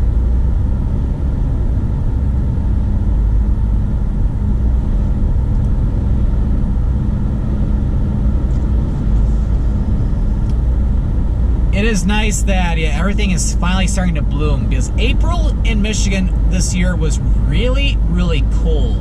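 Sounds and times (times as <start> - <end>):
car cabin road noise: 0.0 - 19.0.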